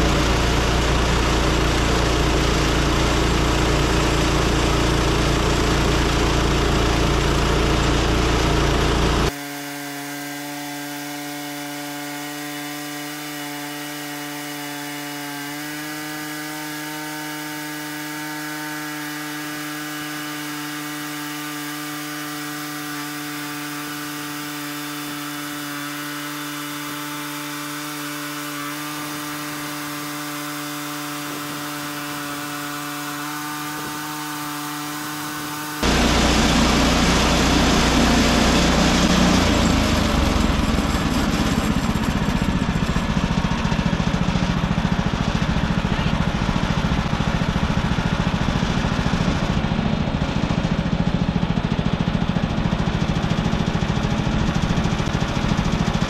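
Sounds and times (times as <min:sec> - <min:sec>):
band saw cutting through log: 0:00.0 - 0:56.0.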